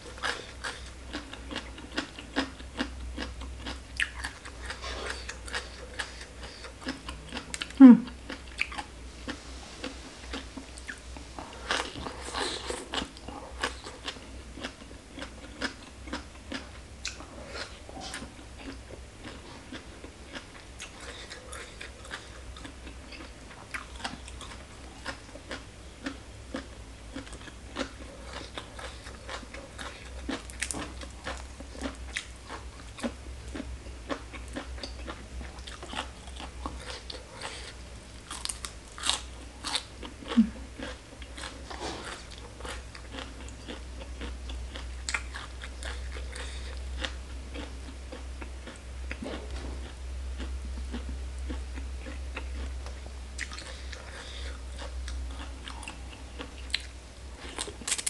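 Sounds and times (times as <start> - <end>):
chewing crisp food crunches: 0.0 - 8.9, 10.3 - 58.0.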